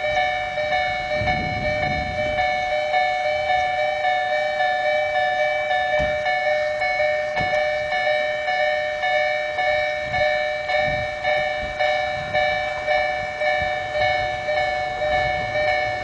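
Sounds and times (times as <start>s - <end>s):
level crossing bell clanging: 0.0s - 16.0s.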